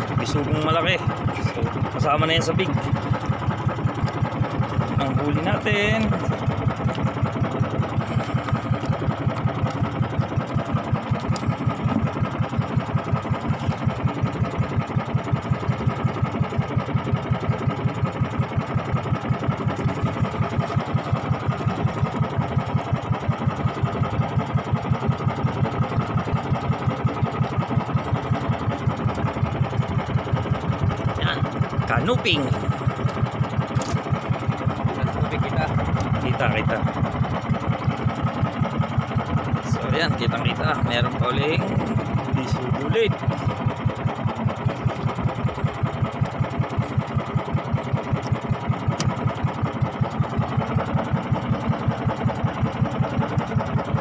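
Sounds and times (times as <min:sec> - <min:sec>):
small engine chugging: 0:00.0 - 0:54.0.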